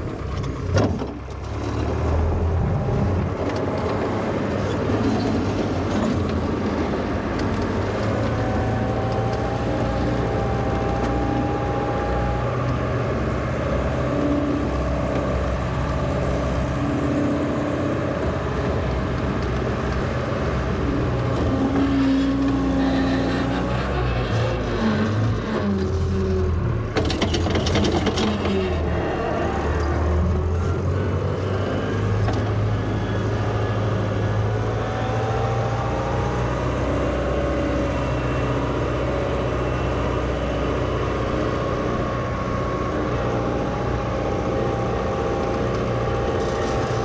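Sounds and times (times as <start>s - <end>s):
wheel loader engine running: 0.0s - 47.0s.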